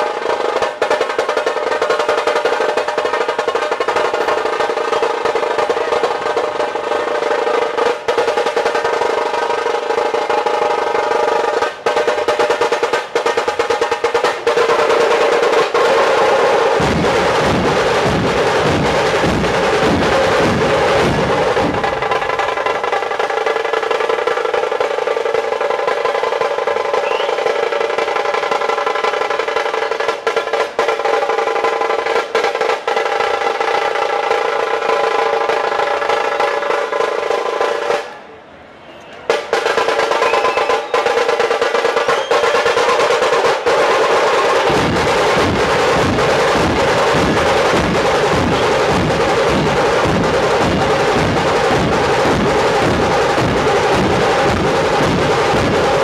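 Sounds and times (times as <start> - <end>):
fast drum roll: 0.0 - 38.1, 39.3 - 56.0
heavy drum beats: 0.0 - 38.2, 39.3 - 56.0.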